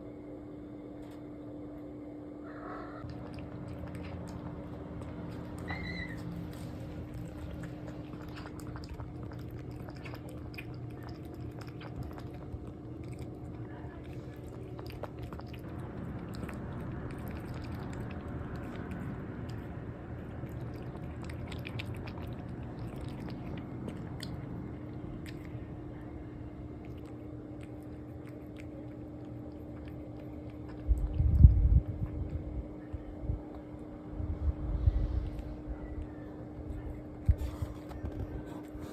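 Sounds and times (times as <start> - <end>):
low appliance hum: 0.0 - 38.9
cat chewing food: 3.0 - 38.9.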